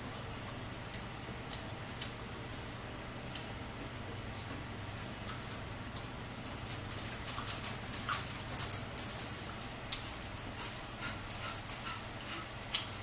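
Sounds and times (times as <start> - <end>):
crackly clicks of french fry: 0.2 - 2.3, 3.2 - 13.0.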